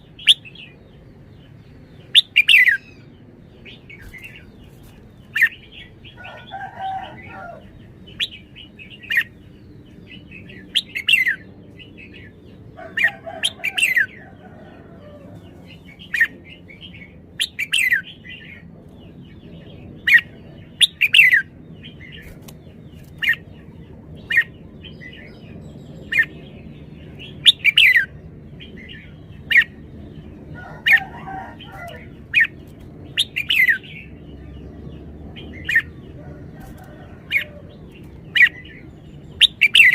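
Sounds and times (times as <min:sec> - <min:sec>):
rough bird chatter: 0:00.0 - 0:39.9.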